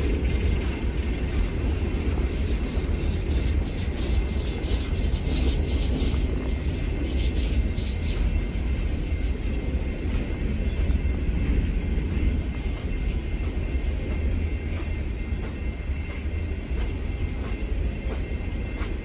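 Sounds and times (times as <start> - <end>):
train clicks: 0.0 - 19.0
train wheels rumbling on rail: 0.0 - 19.0
wheel squeals: 0.0 - 19.0.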